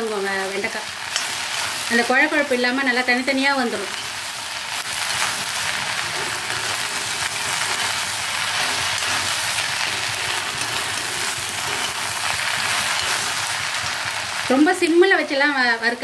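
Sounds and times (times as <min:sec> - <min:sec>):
okra sizzling in hot oil: 0:00.0 - 0:16.0
spatula scraping pan: 0:00.5 - 0:14.6.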